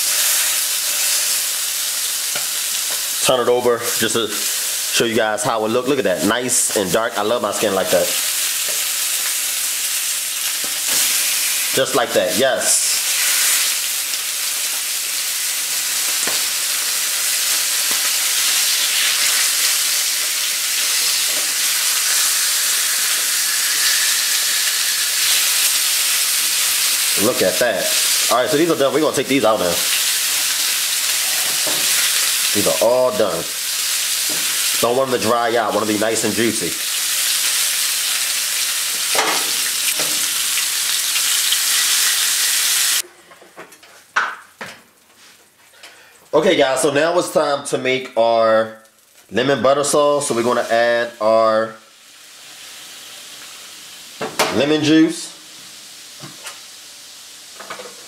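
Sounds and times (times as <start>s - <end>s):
fish sizzling in oil: 0.0s - 5.5s, 6.5s - 43.0s, 50.2s - 58.0s.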